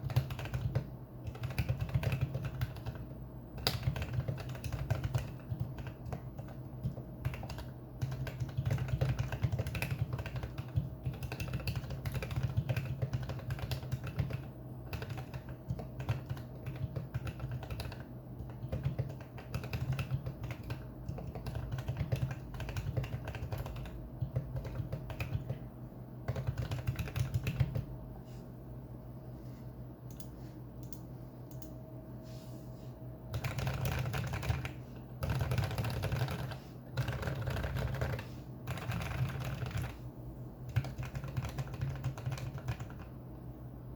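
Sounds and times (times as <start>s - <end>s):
mechanical keyboard typing: 0.0s - 25.6s, 26.3s - 27.9s, 33.3s - 40.0s, 40.7s - 43.1s.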